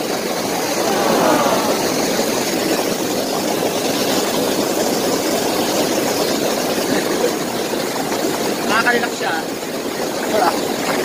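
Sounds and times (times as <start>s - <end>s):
pool water jets bubbling: 0.0s - 11.0s.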